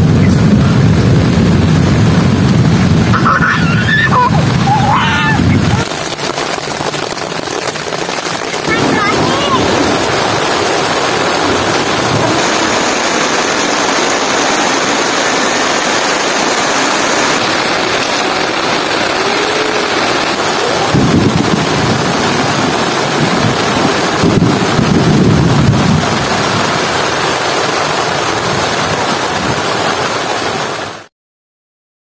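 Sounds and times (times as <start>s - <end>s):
deep rumble: 0.0s - 30.5s
heavy rain falling: 0.0s - 31.1s.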